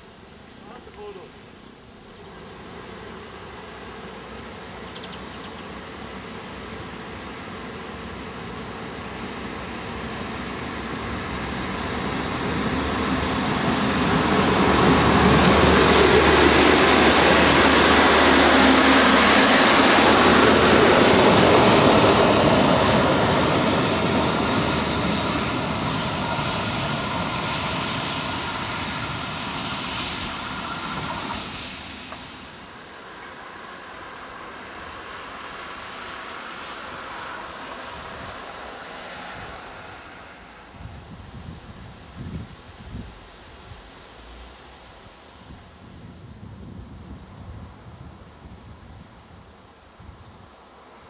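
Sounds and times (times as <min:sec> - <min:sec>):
diesel railcar engine: 0:00.0 - 0:51.0
train wheels on rails: 0:02.2 - 0:45.8.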